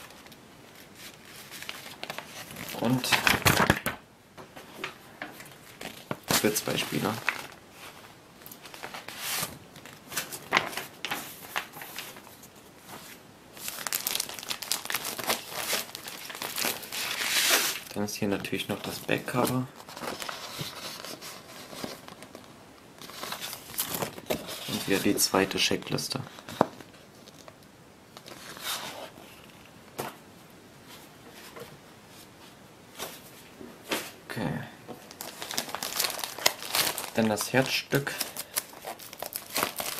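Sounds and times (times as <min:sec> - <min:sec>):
plastic wrapping crinkling: 0:00.0 - 0:04.0, 0:04.8 - 0:29.7, 0:34.9 - 0:39.9
paper and plastic rustling: 0:00.0 - 0:30.2, 0:34.9 - 0:39.9
low room noise: 0:00.0 - 0:39.9.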